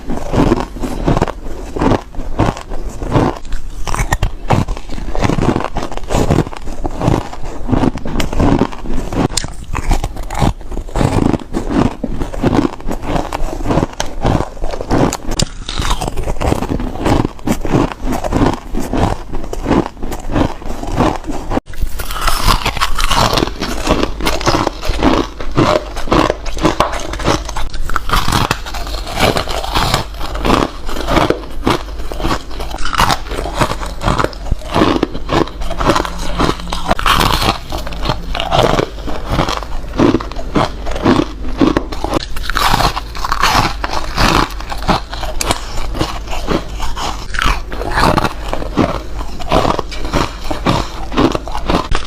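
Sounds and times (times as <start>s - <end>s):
crunchy squeaky chewing: 0.0s - 52.0s.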